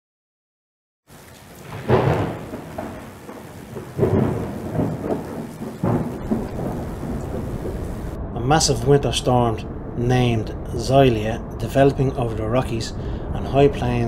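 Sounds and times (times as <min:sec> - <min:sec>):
rain falling: 0:01.1 - 0:14.0
thunder rolling: 0:01.4 - 0:14.0.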